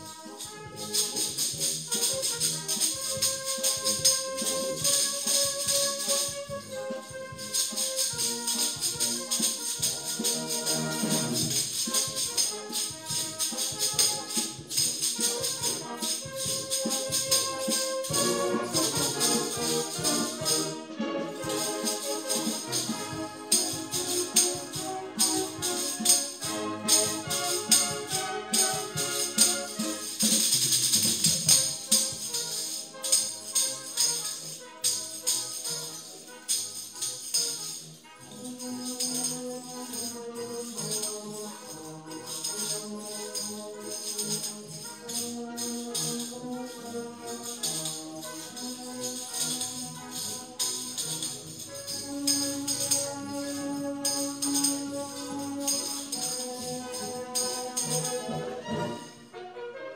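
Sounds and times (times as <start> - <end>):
tambourines jingling: 0.0 - 59.2
orchestral backing music: 0.0 - 59.9.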